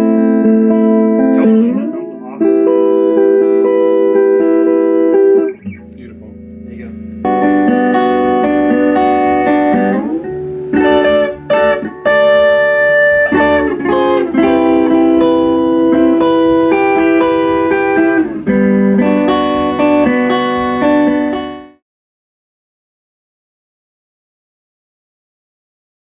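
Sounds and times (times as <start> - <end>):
guitar chords: 0.0 - 21.8.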